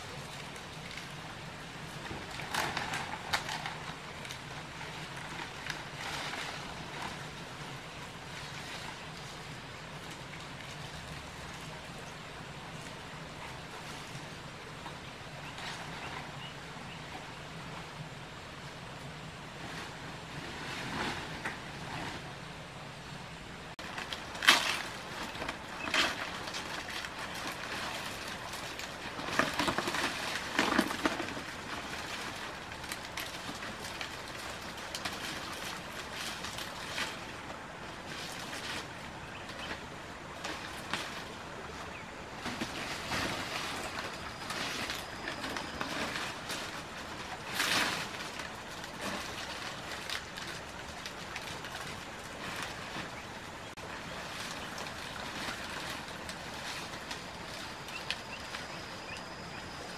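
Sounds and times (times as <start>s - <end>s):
palm fronds rustling: 0.0s - 59.9s.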